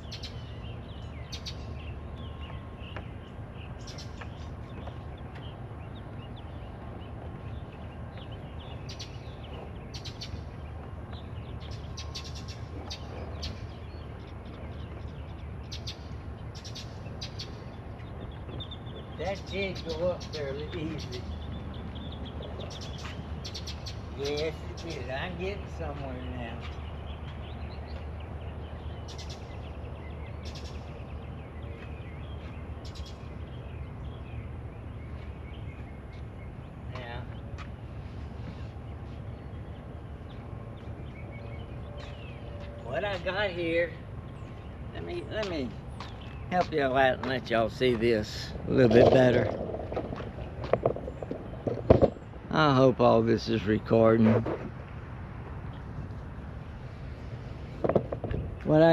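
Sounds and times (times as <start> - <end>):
small birds chirping: 0.0 - 58.9
steady low rumble: 0.0 - 58.9.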